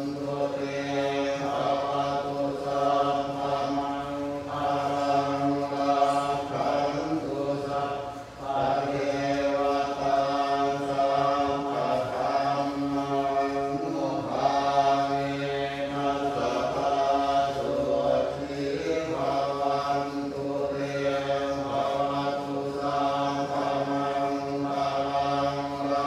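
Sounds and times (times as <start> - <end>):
monks chanting in unison: 0.0 - 26.0.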